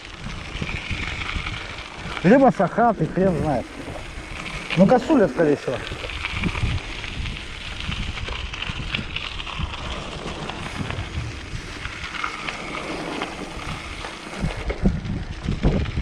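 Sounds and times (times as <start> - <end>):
steady hiss of riding: 0.0 - 14.8
wind buffeting microphone: 0.0 - 16.0.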